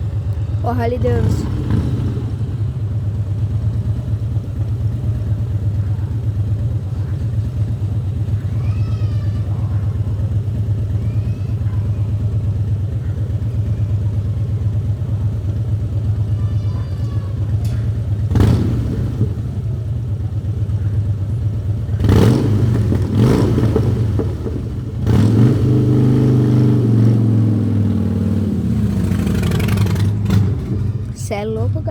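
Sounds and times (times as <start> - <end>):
motorcycle engine idling and revving: 0.0 - 31.9.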